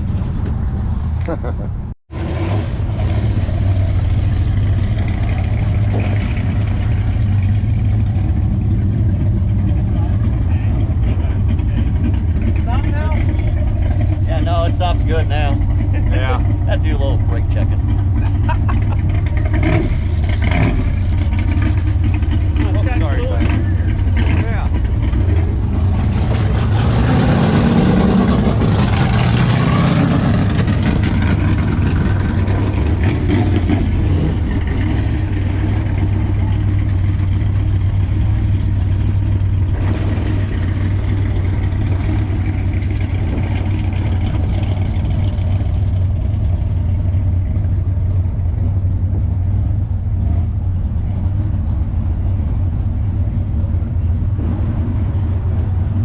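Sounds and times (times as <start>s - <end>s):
car engine and exhaust droning: 0.0s - 56.0s.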